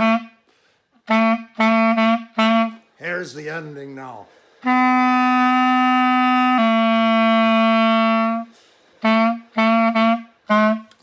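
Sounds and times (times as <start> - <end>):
solo clarinet: 0.0 - 2.9, 4.6 - 11.0.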